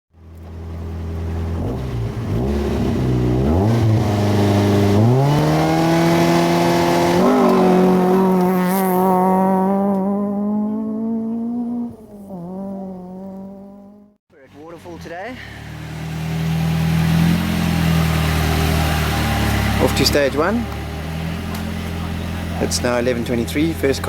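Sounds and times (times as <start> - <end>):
car engine revving: 0.3 - 24.0.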